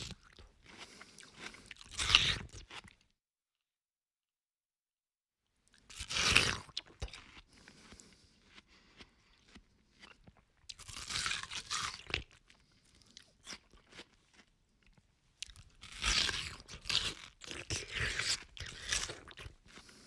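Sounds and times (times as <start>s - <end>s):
person chewing watermelon: 0.0s - 3.1s, 5.7s - 20.0s.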